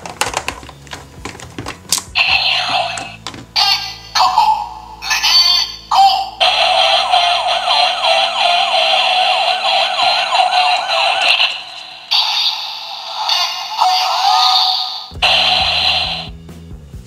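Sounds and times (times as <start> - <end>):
toy blaster siren warble: 2.2 - 16.3.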